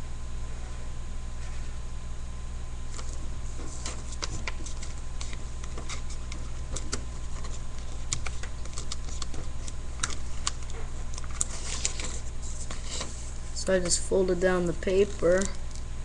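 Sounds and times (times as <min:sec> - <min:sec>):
steady low hum: 0:00.0 - 0:16.0
paper crackling and rustling: 0:02.9 - 0:15.9.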